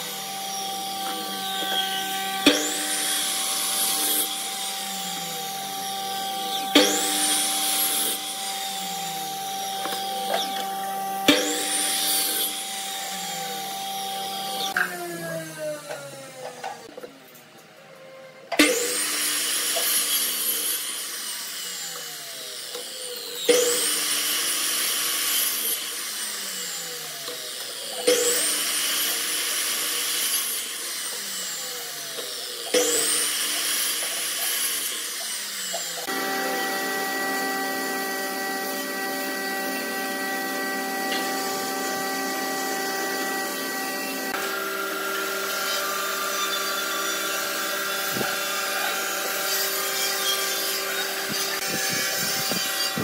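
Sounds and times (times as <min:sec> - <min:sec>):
electric miter saw cutting wood: 0:00.0 - 0:53.0.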